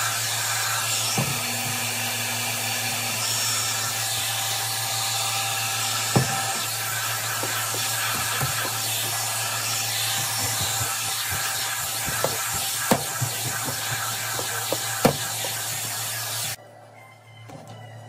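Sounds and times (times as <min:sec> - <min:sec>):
hot-air brush blowing: 0:00.0 - 0:16.6.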